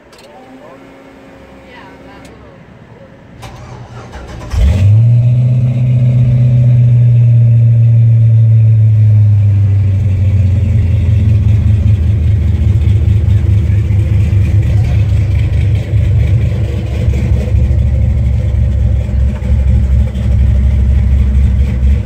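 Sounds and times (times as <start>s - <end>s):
engine idling loudly: 4.0s - 22.0s.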